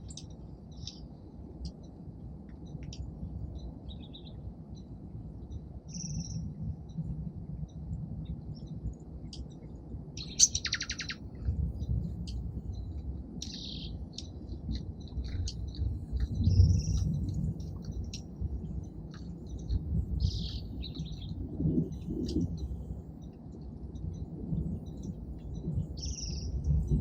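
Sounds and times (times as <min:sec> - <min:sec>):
low background rumble: 0:00.0 - 0:27.0
songbirds chirping: 0:00.0 - 0:27.0.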